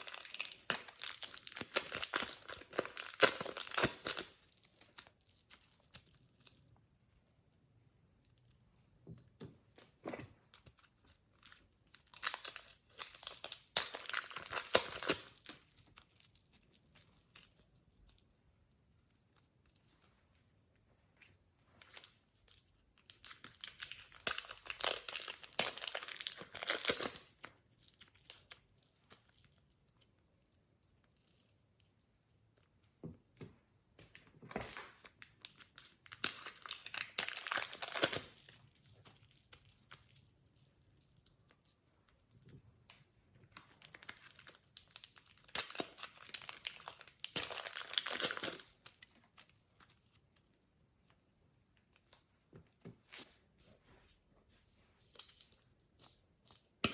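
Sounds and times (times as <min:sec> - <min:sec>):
slime crinkly crackling: 0:00.0 - 0:09.0, 0:09.9 - 0:33.0, 0:34.4 - 0:53.4.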